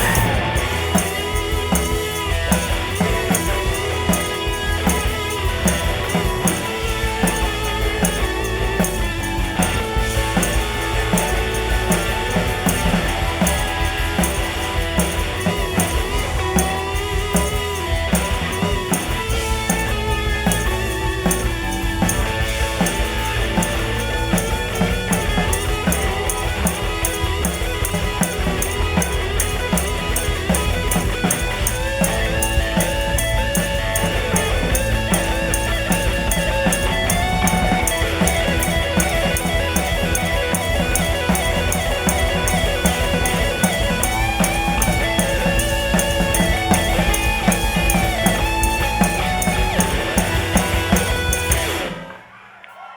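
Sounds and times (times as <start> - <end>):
drum kit with cymbal hits: 0.0 - 52.4
electric guitars lead line: 0.0 - 52.4.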